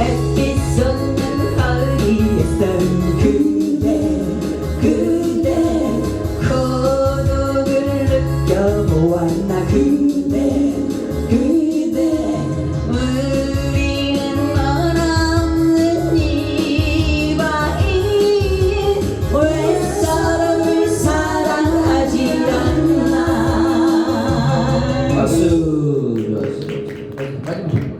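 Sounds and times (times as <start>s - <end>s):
band song with drum beat: 0.0s - 25.6s.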